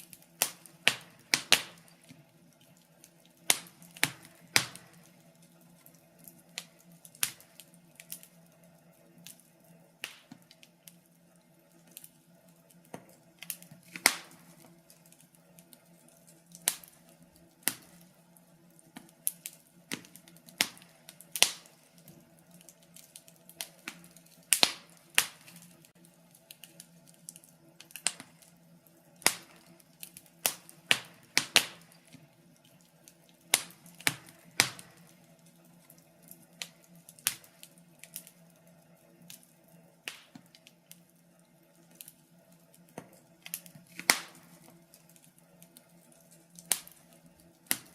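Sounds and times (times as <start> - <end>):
faint steady hum: 0.0 - 47.9
wood fire crackling: 0.0 - 47.9.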